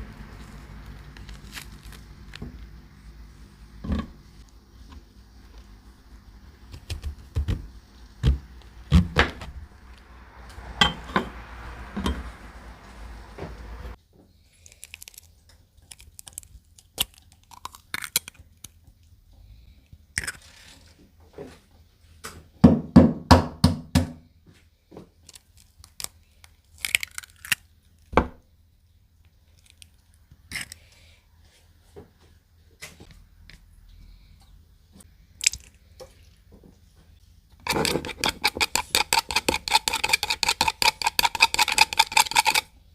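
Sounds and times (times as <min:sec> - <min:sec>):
steady low hum and hiss: 0:00.0 - 0:42.9.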